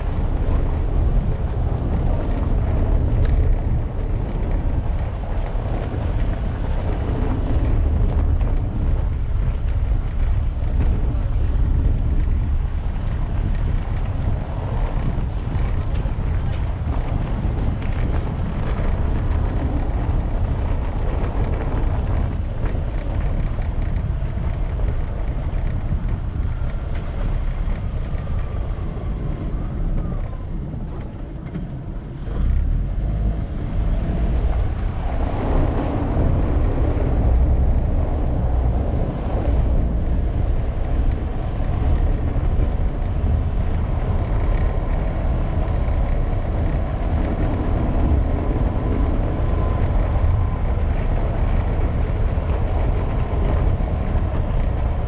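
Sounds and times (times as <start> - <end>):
car tyres rumbling over cobblestones: 0.0 - 55.0
wind buffeting microphone: 0.0 - 55.0.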